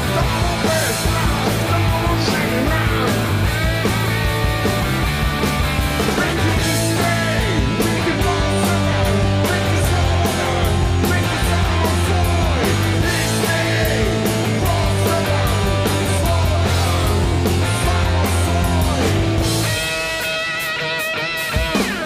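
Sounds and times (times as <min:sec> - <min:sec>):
man singing: 0:00.0 - 0:03.9, 0:06.0 - 0:20.2
live rock band playing: 0:00.0 - 0:22.0.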